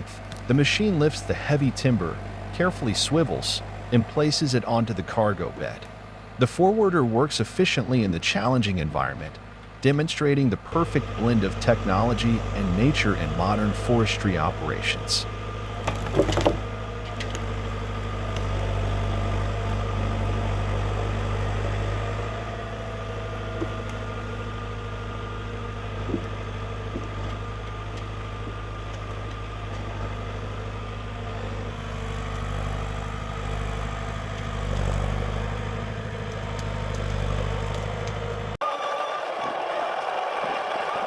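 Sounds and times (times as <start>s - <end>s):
diesel engine running: 0.0s - 38.6s.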